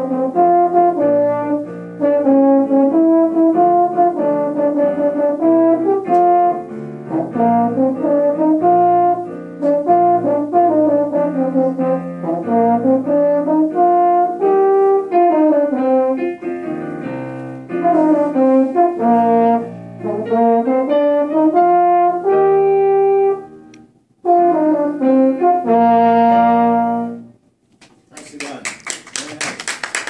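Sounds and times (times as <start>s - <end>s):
french horn melody: 0.0s - 27.4s
piano accompaniment: 0.0s - 27.5s.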